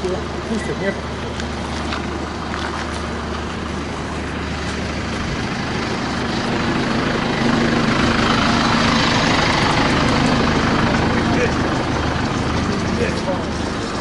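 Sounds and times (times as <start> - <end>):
diesel engine running: 0.0 - 14.0
steady hum: 0.0 - 14.0.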